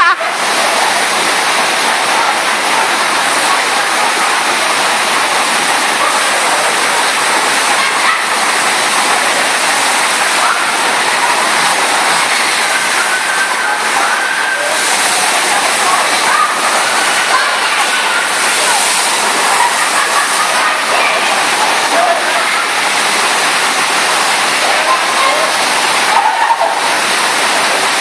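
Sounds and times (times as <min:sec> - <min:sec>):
rushing water over wave machine: 0:00.0 - 0:28.0.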